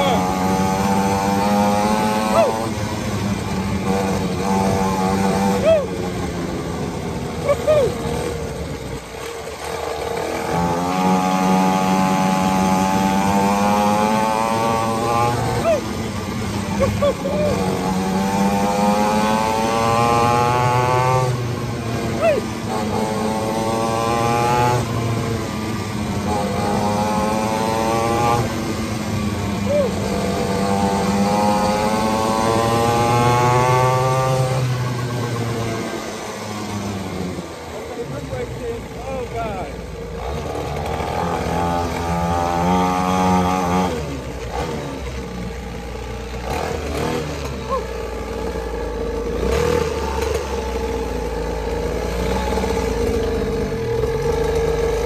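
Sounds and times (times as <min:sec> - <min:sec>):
two-stroke engine running: 0:00.0 - 0:55.0.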